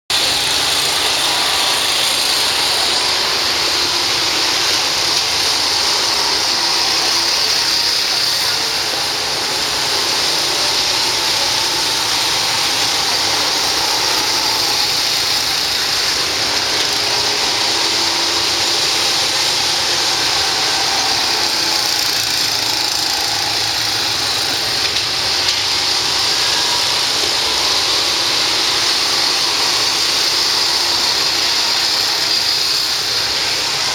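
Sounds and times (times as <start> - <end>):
go-kart engines running: 0.0 - 33.9.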